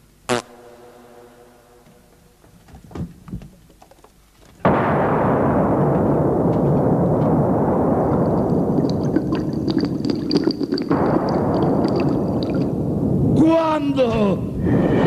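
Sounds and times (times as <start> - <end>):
crackles: 1.8 - 14.1.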